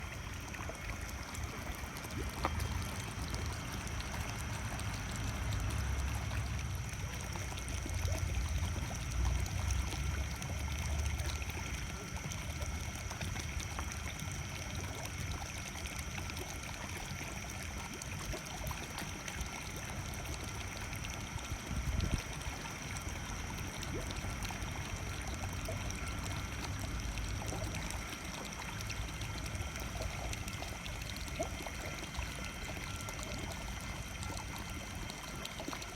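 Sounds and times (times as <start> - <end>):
water pouring into pond: 0.0 - 35.9.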